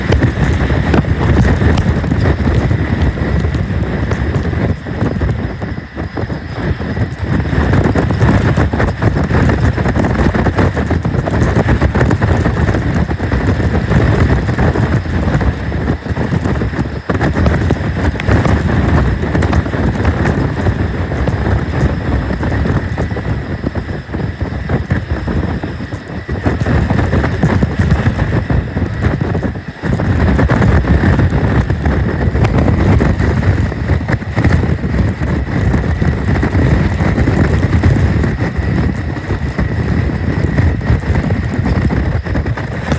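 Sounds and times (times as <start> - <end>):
faint high engine whine: 0.0 - 42.9
jet airliner taking off: 0.0 - 42.9.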